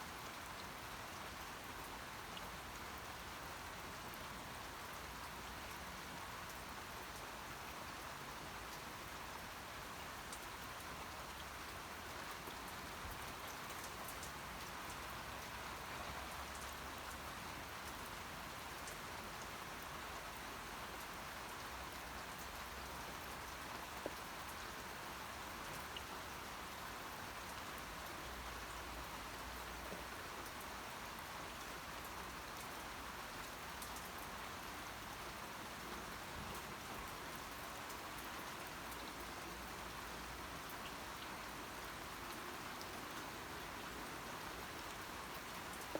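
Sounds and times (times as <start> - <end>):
raindrops ticking on surfaces: 0.1 - 45.9.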